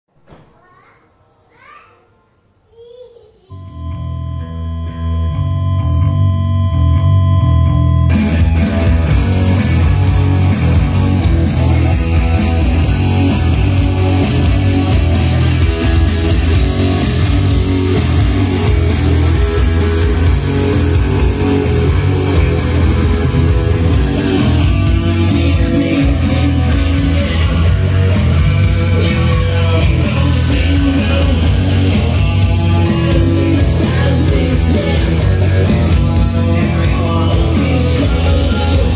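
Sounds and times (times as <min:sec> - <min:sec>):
rock music over loudspeakers: 0:03.6 - 0:38.9.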